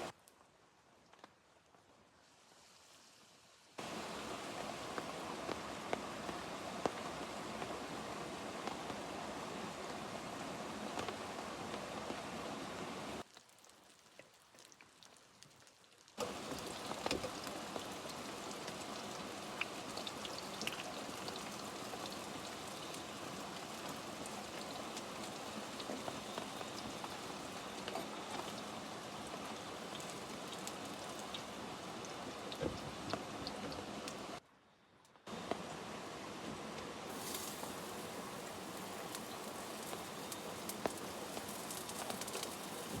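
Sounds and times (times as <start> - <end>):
rain drops falling: 0.0 - 34.4, 35.2 - 43.0.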